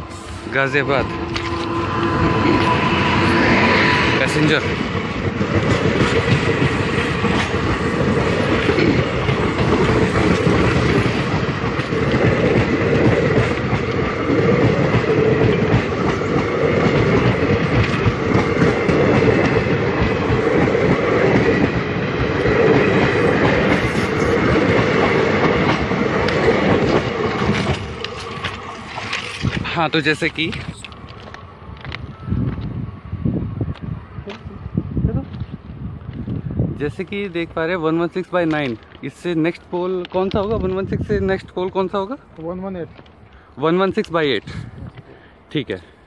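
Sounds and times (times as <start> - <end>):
passenger train wheels on rails: 0.0 - 46.0.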